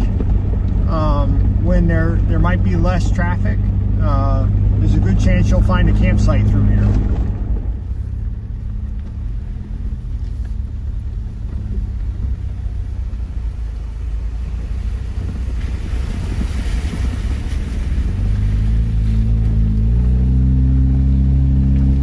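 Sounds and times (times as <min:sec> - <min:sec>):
engine and tyres on gravel: 0:00.0 - 0:22.0
wheels splashing through water: 0:00.0 - 0:22.0.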